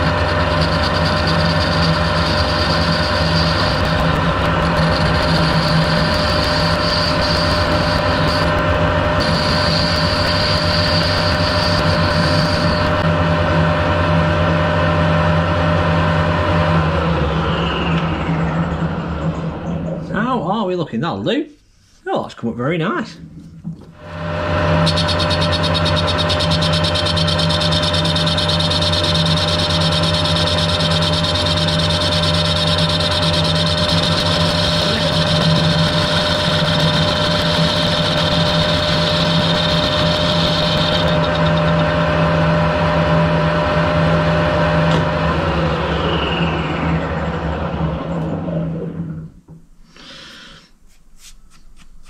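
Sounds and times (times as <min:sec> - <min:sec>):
metal lathe humming and whining: 0:00.0 - 0:19.5, 0:24.0 - 0:49.1.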